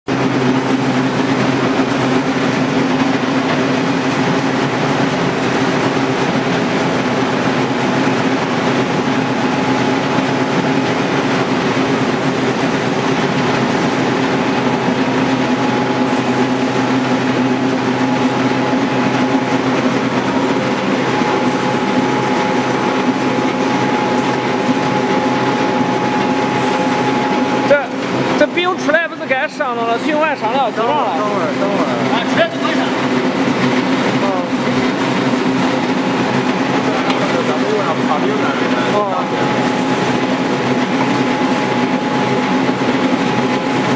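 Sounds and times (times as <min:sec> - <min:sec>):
oil press motor hum and clatter: 0:00.1 - 0:43.9
thin steady whine: 0:07.0 - 0:43.9.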